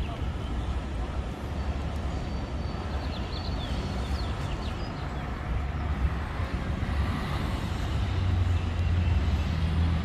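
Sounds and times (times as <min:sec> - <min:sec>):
low city rumble: 0:00.0 - 0:10.0.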